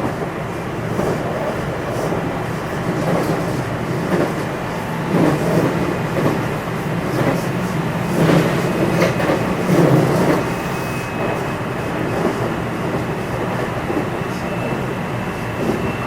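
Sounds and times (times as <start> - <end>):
train motor hum and rumble: 0.0 - 16.0.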